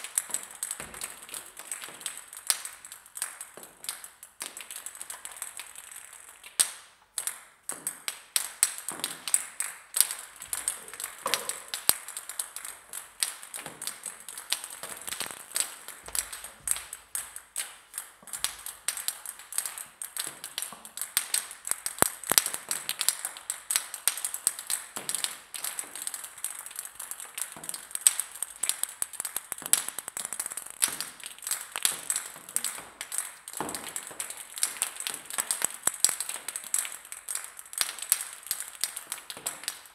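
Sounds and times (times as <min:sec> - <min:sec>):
table tennis balls bouncing: 0:00.1 - 0:03.8, 0:07.2 - 0:23.4, 0:24.1 - 0:36.6.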